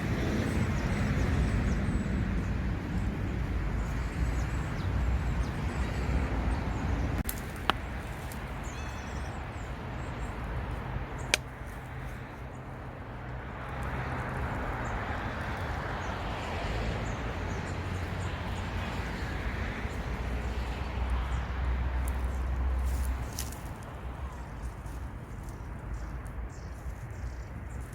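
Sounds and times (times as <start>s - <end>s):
traffic rumble: 0.0s - 27.9s.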